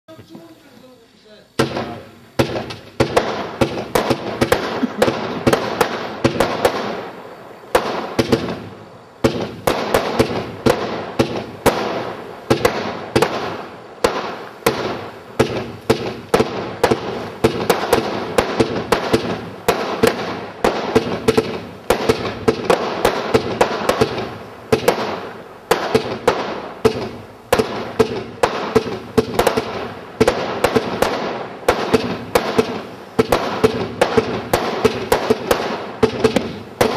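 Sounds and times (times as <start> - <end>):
firework crackling: 0.1 - 36.9
firework bangs: 1.3 - 36.9.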